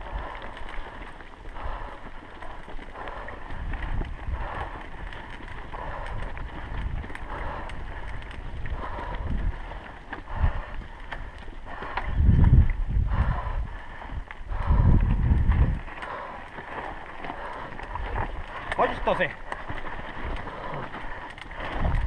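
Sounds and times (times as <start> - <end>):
tyres crunching on loose stones: 0.0 - 12.9, 14.1 - 22.0
bike rattling: 0.0 - 22.0.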